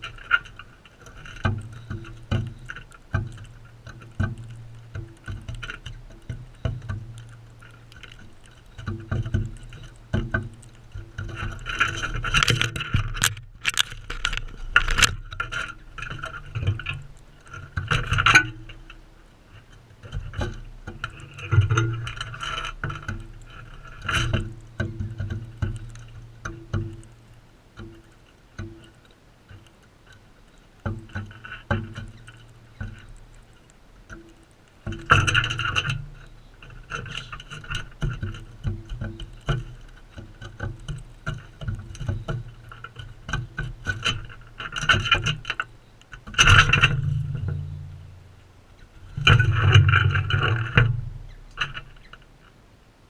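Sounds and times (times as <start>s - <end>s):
parrot beaks knocking and scraping: 0.0s - 19.0s, 20.0s - 27.2s, 30.8s - 47.9s.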